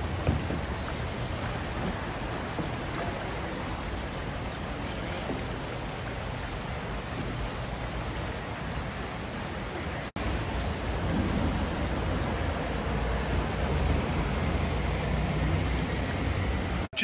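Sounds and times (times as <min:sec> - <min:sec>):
creek water rushing over rocks: 0:00.0 - 0:16.9.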